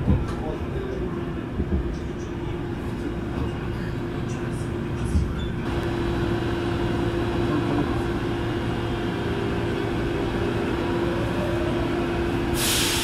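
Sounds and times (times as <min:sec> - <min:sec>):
subway train running rumble: 0:00.0 - 0:13.0.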